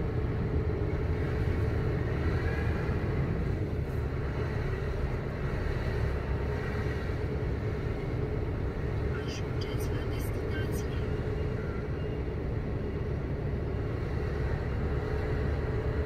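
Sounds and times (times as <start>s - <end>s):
lorry engine rumbling: 0.0s - 16.0s.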